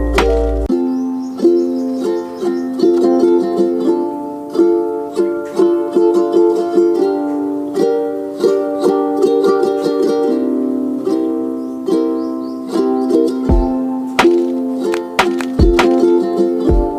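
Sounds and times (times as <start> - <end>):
plucked ukulele music: 0.0 - 16.9.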